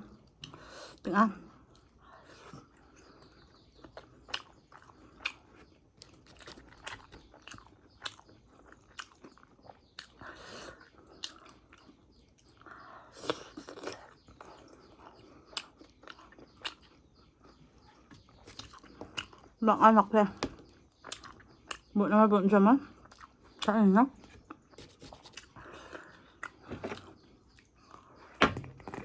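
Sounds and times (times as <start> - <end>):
chewing crunchy fried food: 1.5 - 22.0, 22.8 - 29.0.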